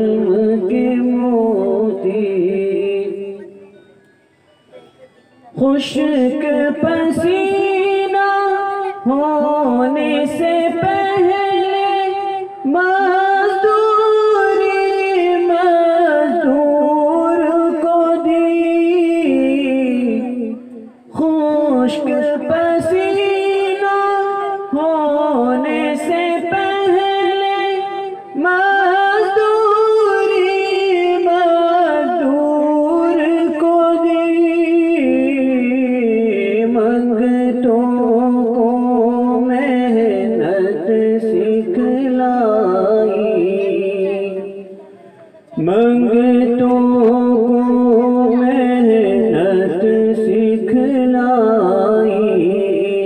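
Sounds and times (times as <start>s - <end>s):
person singing devotional poem: 0.0s - 3.9s, 5.4s - 53.0s.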